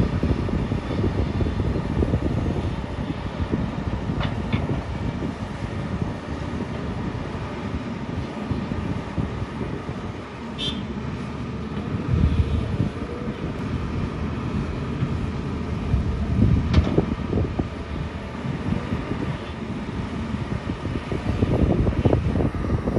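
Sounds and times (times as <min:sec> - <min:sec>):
excavator diesel engine rumble: 0:00.0 - 0:22.9.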